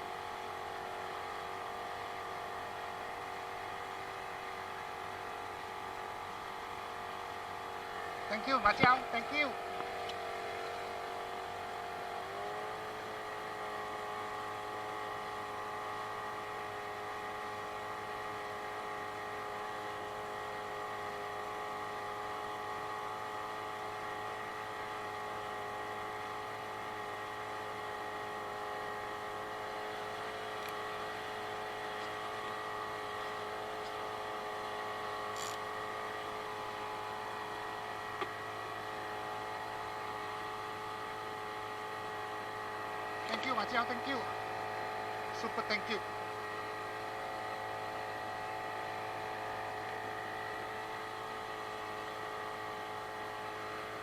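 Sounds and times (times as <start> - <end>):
small motor whining hum: 0.0 - 54.0.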